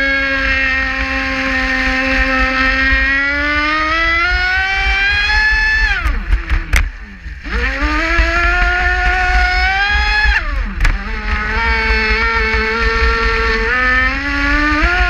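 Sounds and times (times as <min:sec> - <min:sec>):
rumble of wind and water: 0:00.0 - 0:15.0.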